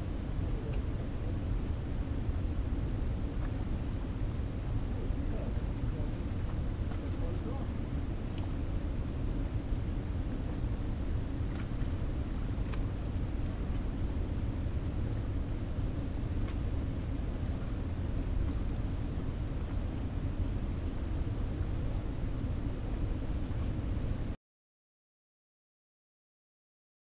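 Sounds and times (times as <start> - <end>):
high insect drone: 0.0 - 24.4.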